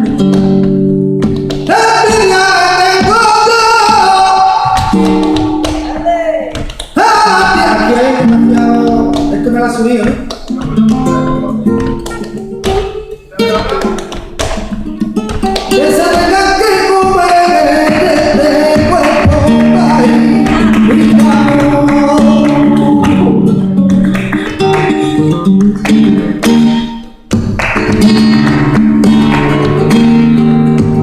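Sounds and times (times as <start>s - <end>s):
flamenco guitar playing: 0.0s - 31.0s.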